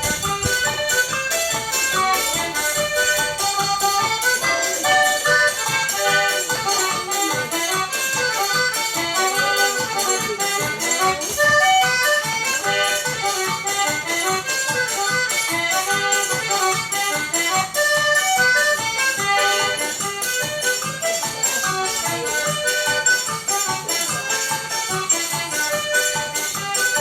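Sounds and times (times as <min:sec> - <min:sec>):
accordion melody: 0:00.0 - 0:27.0
shaker and triangle beat: 0:00.0 - 0:27.0.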